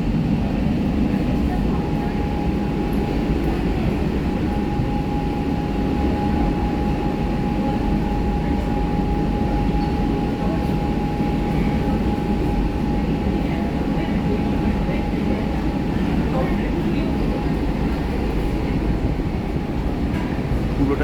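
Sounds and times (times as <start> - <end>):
high train whine: 0.0 - 21.0.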